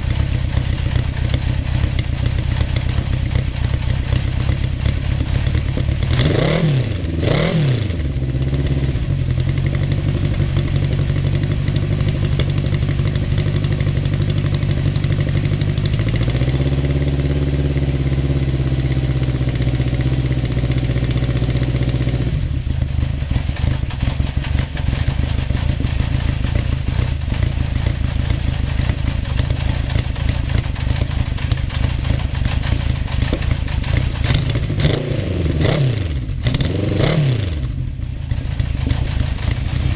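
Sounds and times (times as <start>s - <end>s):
motorcycle engine idling: 0.0s - 39.9s
motorcycle throttle blips: 0.0s - 39.9s.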